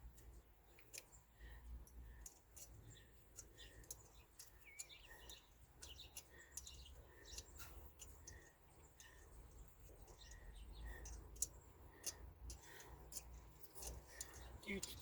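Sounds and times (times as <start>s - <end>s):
bird chirping: 0.2s - 15.0s.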